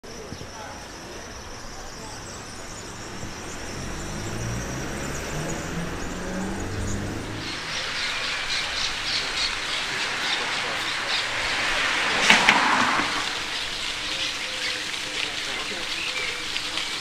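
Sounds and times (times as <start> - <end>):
small birds chirping: 0.0 - 12.3, 13.2 - 17.0
car engine passing: 1.1 - 15.9.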